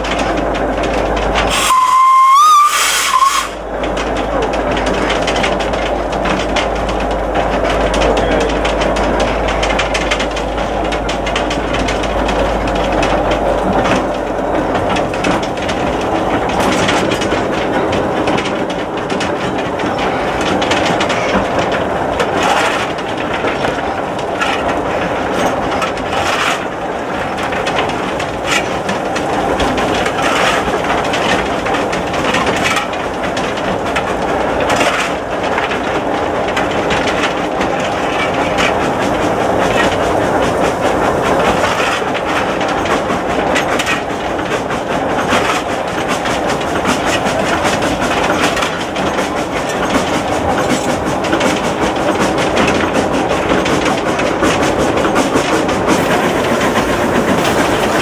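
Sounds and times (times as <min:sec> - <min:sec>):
cab rattling and clanking: 0:00.0 - 0:01.7, 0:02.6 - 0:58.0
wheels clattering over rails: 0:00.0 - 0:58.0.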